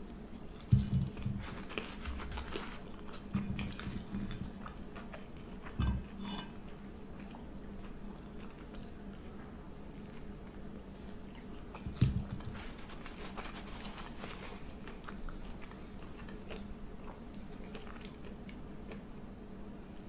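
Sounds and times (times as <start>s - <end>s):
chewing and biting food: 0.1s - 19.2s.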